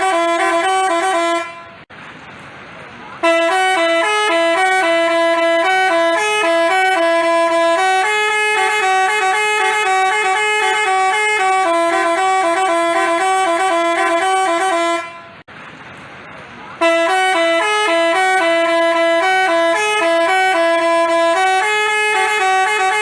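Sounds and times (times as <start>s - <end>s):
bus horn playing a tune: 0.0s - 1.9s, 3.2s - 15.5s, 16.8s - 23.0s.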